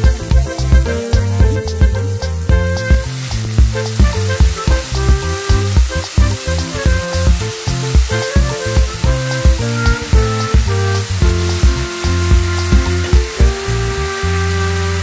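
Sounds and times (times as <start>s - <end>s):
background music with steady beat: 0.0s - 14.6s
food sizzling in a pan: 0.1s - 15.0s.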